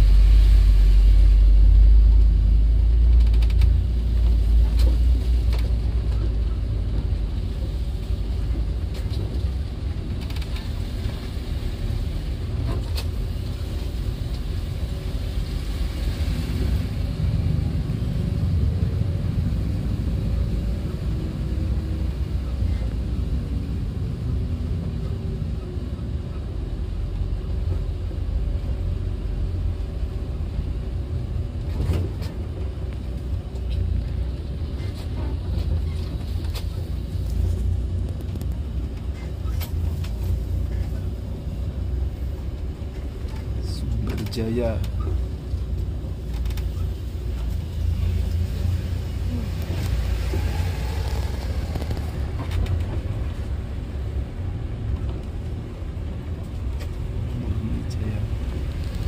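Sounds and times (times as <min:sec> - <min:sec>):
bus engine: 0:00.0 - 0:59.0
road rumble: 0:00.0 - 0:59.0.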